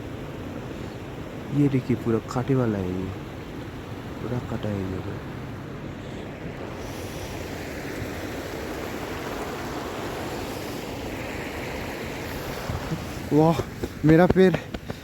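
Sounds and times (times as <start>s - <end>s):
steady rushing noise: 1.2s - 15.0s.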